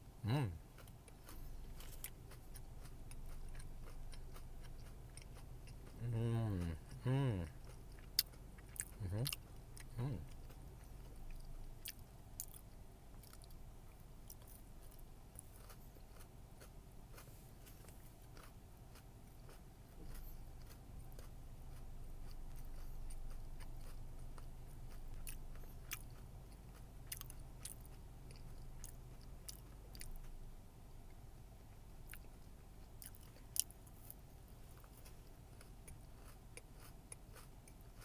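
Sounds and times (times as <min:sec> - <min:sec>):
steady low hum: 0:00.0 - 0:38.0
person chewing crunchy bar: 0:00.3 - 0:30.4, 0:31.1 - 0:38.0.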